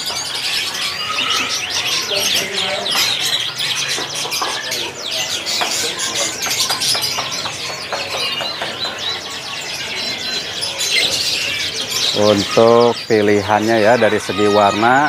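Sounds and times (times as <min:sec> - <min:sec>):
birds hopping between perches: 0:00.0 - 0:15.0
canaries chirping and twittering: 0:00.0 - 0:15.0.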